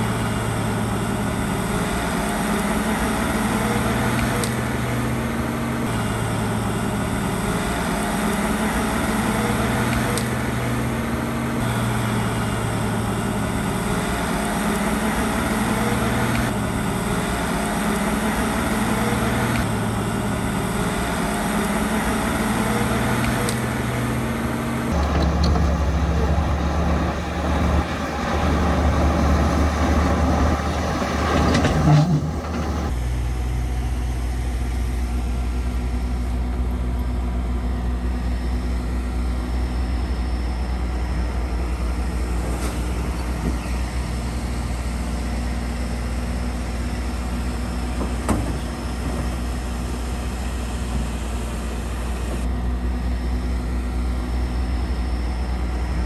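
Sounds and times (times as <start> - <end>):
deep engine drone: 0.0 - 56.0
diesel earthmoving machinery: 0.0 - 56.0.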